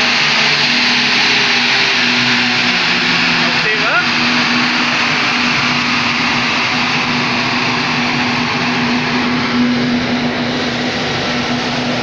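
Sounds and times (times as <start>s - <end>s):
rolling road hum: 0.0s - 12.0s.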